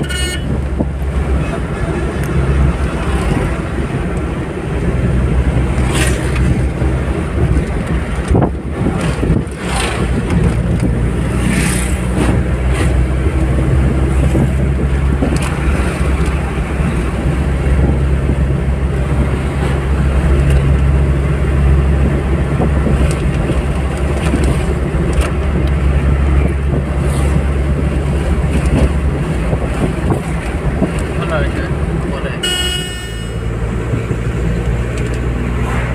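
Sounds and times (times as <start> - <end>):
car engine and tyres droning: 0.0 - 35.9.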